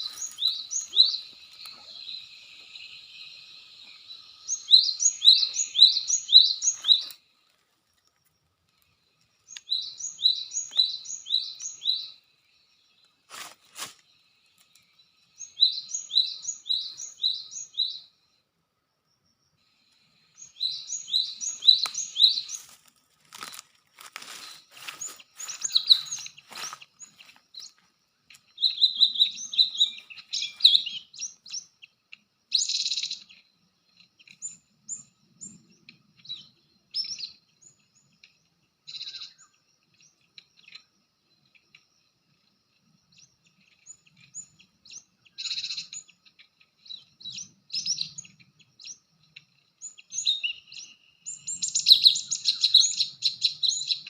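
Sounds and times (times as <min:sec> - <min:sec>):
birds chirping: 0:00.0 - 0:18.4, 0:19.3 - 0:54.0.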